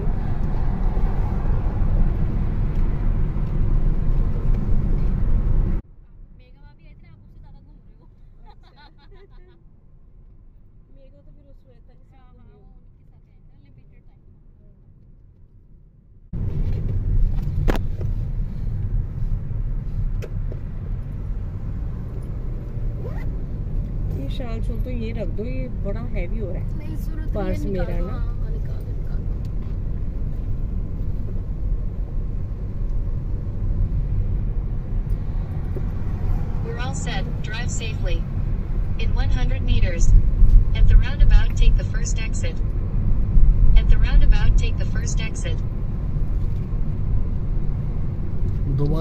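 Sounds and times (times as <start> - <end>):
car driving rumble from inside: 0.0 - 49.0.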